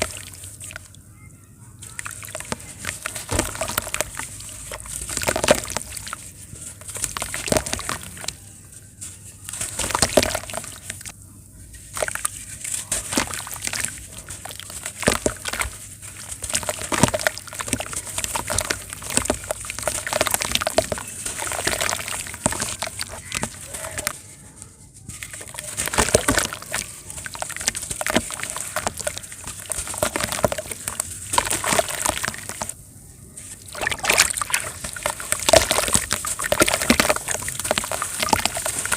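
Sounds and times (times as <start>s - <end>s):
sand crumbling in water: 1.9s - 8.4s, 9.2s - 24.2s, 25.1s - 32.8s, 33.4s - 38.9s.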